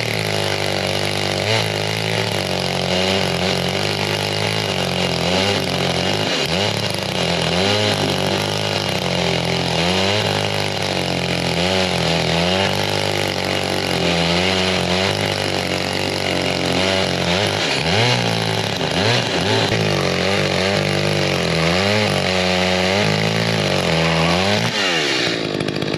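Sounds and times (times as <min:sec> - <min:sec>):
chainsaw cutting a log: 0:00.0 - 0:25.9.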